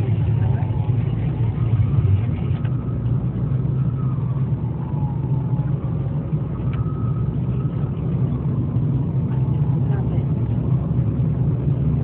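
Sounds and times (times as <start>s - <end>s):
freeway traffic rumble: 0.0s - 12.0s.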